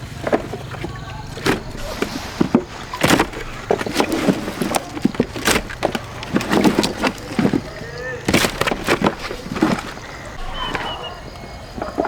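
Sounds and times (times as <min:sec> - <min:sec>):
knocks and clatter: 0:00.0 - 0:12.0.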